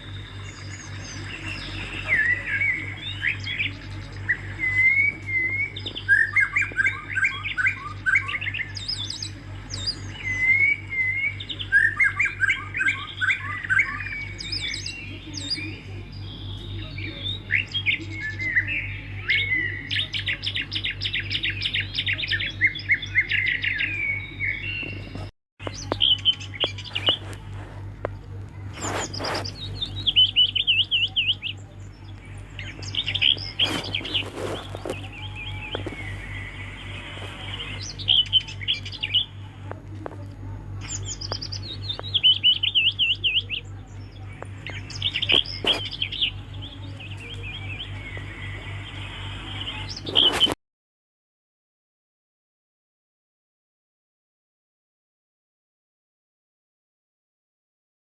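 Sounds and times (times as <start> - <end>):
low electrical hum: 0.0 - 50.5.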